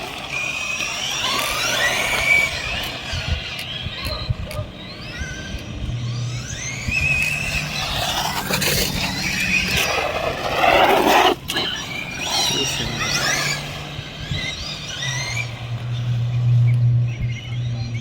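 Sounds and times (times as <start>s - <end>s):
electric rc car motors whining: 0.0s - 18.0s.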